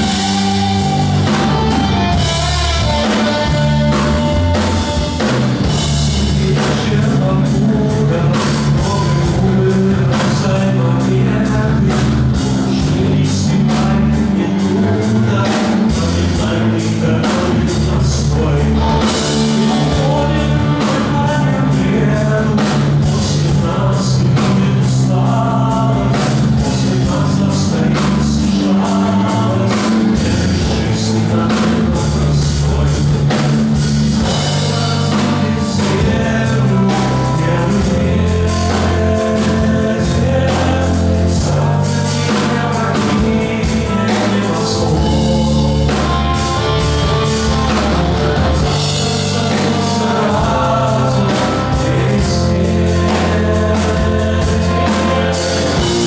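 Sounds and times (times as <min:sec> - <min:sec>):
rock song with singing: 0:00.0 - 0:56.0.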